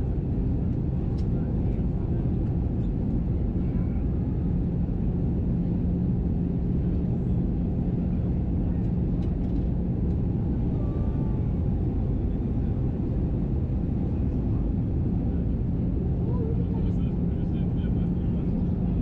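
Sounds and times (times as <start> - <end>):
aircraft cabin engine rumble: 0.0 - 19.0
steady low hum: 0.0 - 19.0.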